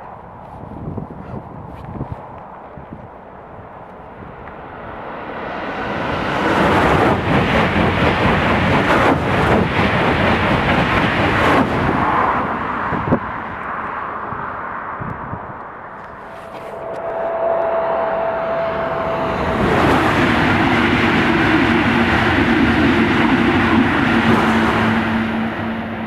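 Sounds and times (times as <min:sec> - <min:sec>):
high-speed train passing: 0:00.1 - 0:26.0.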